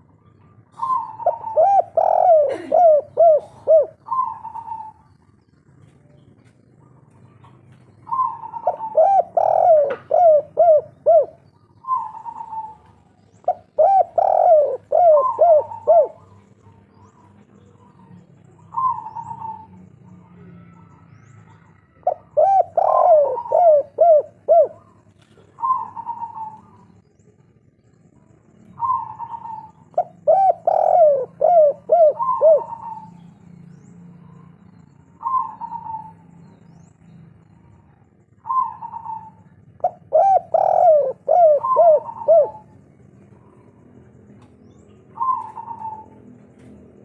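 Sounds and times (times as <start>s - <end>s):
dove cooing: 0.0s - 27.5s, 28.6s - 33.3s, 34.2s - 36.7s, 37.4s - 47.0s.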